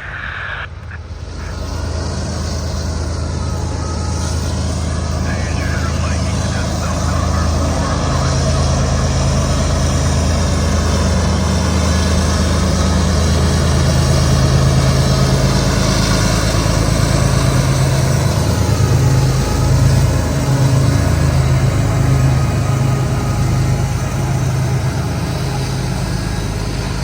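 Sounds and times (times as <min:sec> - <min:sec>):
large engine idling: 0:00.0 - 0:27.0.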